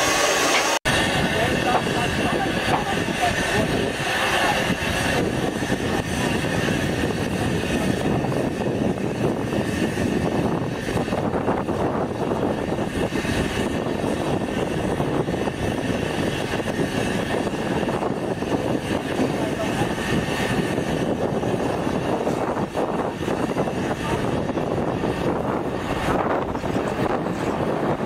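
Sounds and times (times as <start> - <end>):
train engine droning: 0.0 - 28.0.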